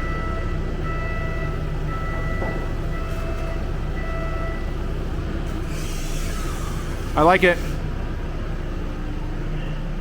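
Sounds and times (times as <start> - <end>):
engine low hum: 0.0 - 10.0.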